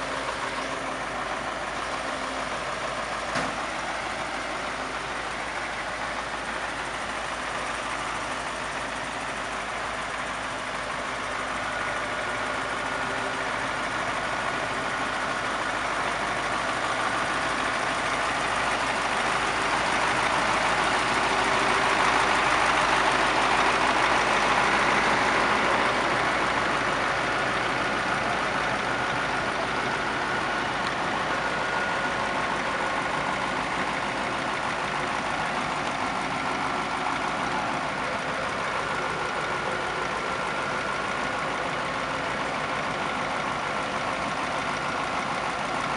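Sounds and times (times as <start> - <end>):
heavy road works machinery engine: 0.0 - 45.9.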